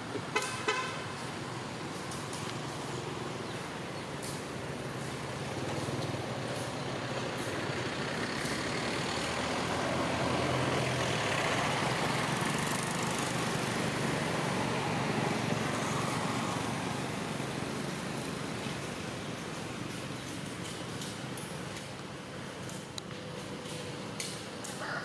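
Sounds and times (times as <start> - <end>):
vehicle engine passing: 0.0 - 21.2.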